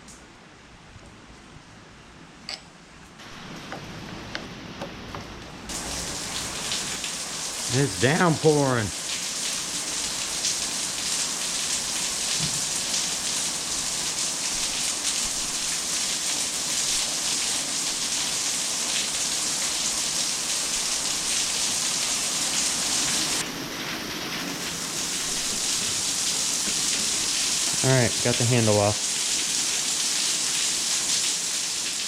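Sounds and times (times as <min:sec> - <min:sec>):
heavy rain downpour: 0:03.2 - 0:32.0.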